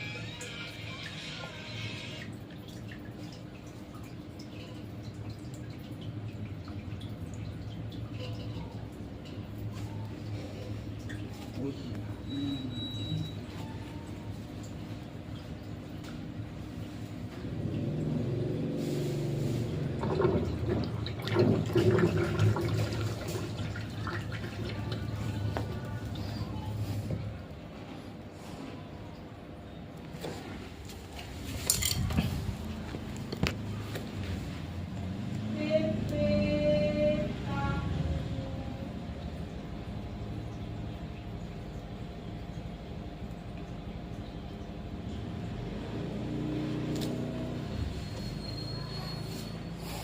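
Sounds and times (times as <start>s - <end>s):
water rushing in washing machine: 0.0s - 50.0s.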